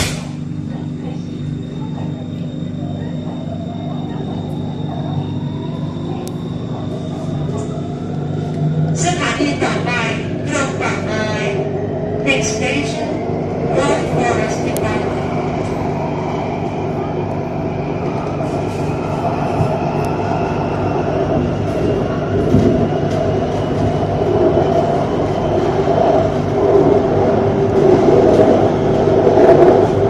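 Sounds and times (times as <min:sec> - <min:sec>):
train car mechanical hum: 0:00.0 - 0:30.0.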